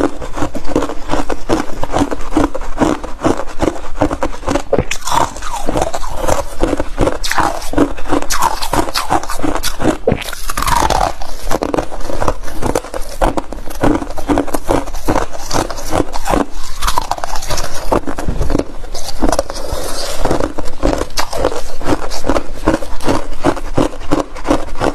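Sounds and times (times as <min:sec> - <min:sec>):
frost crunching in mouth: 0:00.0 - 0:24.9.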